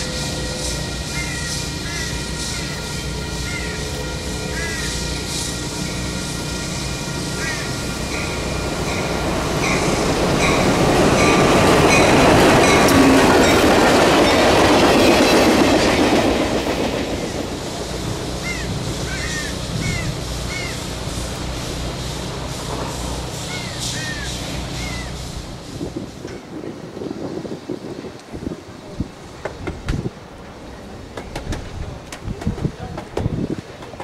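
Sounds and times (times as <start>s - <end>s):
diesel locomotive engine: 0.0s - 34.0s
train wheels on rails: 0.0s - 34.0s.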